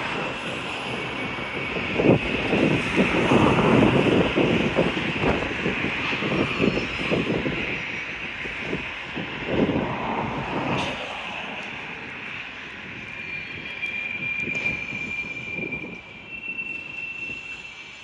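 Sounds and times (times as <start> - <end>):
freight train rumbling past: 0.0 - 18.0
high steady squeal: 0.0 - 18.0.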